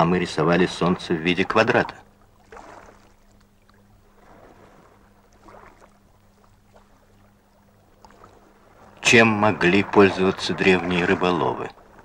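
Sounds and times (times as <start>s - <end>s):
small waves lapping shore: 0.0s - 12.0s
steady low hum: 0.0s - 12.0s.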